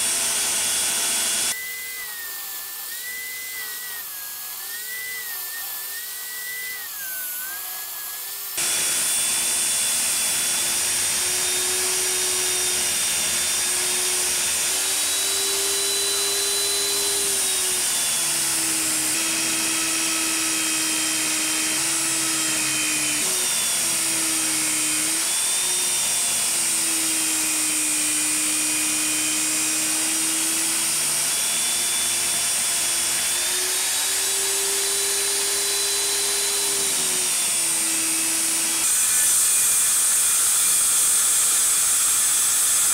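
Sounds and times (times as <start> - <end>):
angle grinder motor whine: 0.0 - 42.9.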